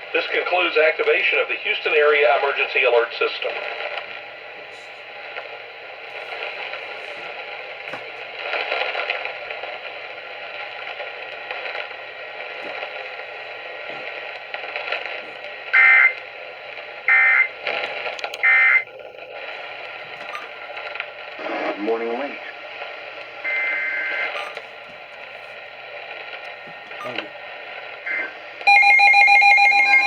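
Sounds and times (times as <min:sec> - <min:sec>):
radio static hissing: 0:00.0 - 0:28.7.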